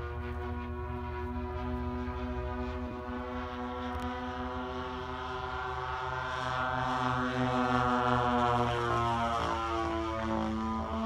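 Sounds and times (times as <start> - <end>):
propeller plane flying overhead: 0.0 - 11.0.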